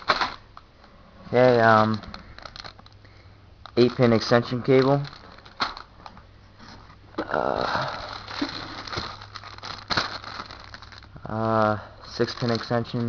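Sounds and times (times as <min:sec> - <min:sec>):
packaging rustling: 0:00.0 - 0:00.5, 0:01.3 - 0:03.0, 0:03.6 - 0:07.0, 0:07.6 - 0:13.0
low steady hum: 0:00.0 - 0:13.0.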